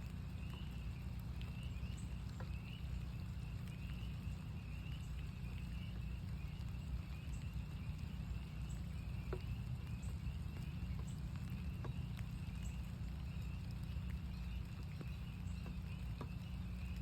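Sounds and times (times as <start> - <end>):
distant spring peepers chorus: 0.0 - 17.0
rain rumble: 0.0 - 17.0
raindrops ticking on surfaces: 0.0 - 17.0.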